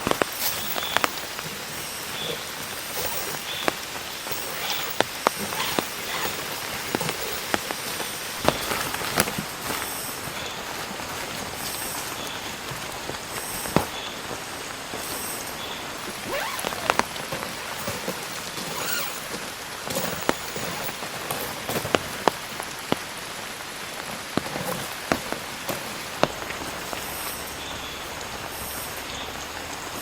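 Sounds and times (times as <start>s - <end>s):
heavy rain falling: 0.0s - 30.0s
sharp rain drop hits: 0.0s - 30.0s.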